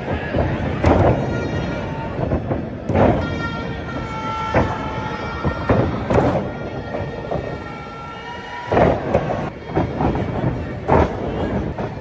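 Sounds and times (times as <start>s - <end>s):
arena crowd noise: 0.0s - 12.0s.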